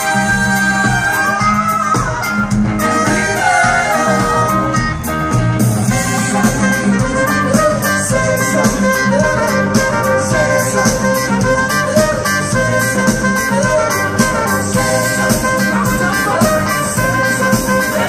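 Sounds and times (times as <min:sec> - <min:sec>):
live rock band playing: 0:00.0 - 0:18.0
steady drum beat: 0:00.0 - 0:18.0.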